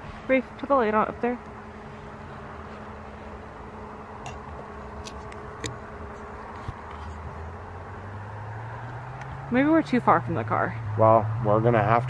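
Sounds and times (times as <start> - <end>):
low steady drone: 0.0 - 12.0
outdoor background hiss: 0.0 - 12.0.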